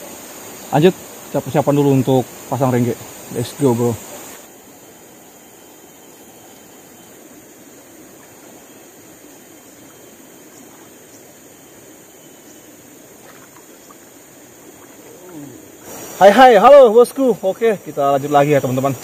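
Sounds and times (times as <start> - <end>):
high-pitched insect drone: 0.0 - 19.0
river water rushing: 0.0 - 19.0.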